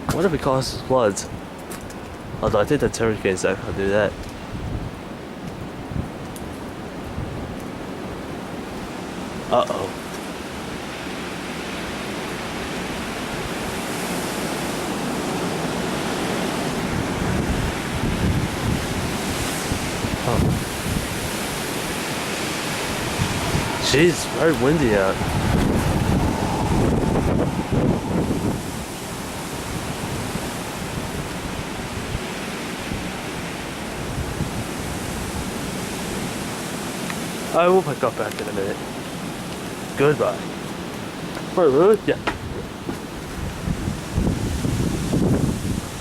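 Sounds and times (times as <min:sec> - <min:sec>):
wind gusts buffeting microphone: 0:00.0 - 0:46.0
strong wind rushing: 0:02.1 - 0:46.0
heavy rain hissing: 0:07.1 - 0:46.0.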